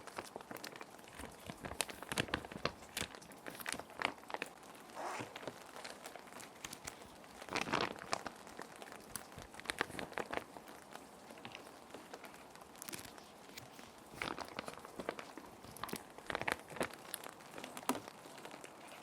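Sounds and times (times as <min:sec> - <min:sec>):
plastic sheet protectors crinkling: 0:00.0 - 0:19.0
steady rain hiss: 0:00.0 - 0:19.0.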